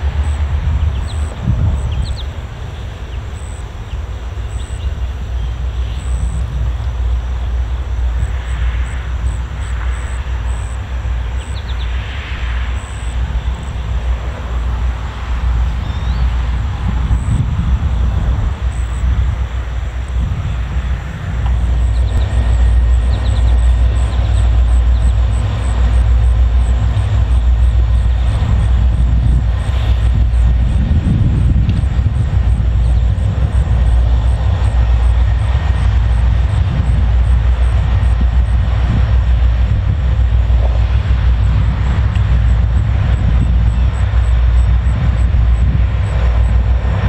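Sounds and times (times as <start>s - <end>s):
diesel locomotive engines rumbling: 0.0s - 47.0s.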